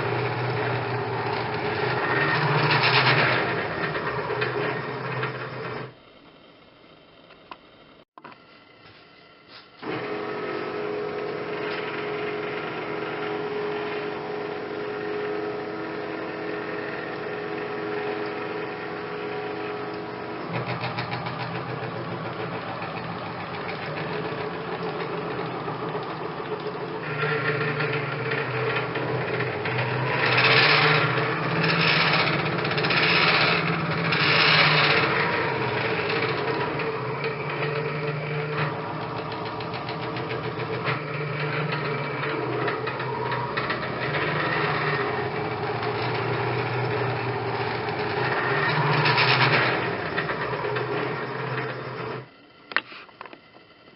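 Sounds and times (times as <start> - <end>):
stepper motors whining: 0.0 - 7.6, 9.8 - 53.9.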